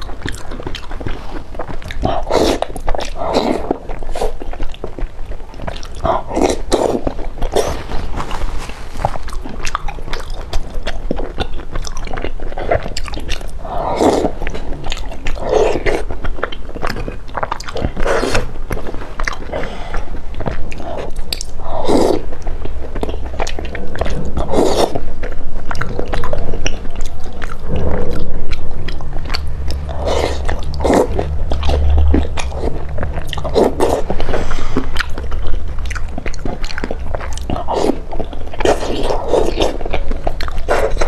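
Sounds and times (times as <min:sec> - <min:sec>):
wet chewing and lip-smacking: 0:00.0 - 0:41.0.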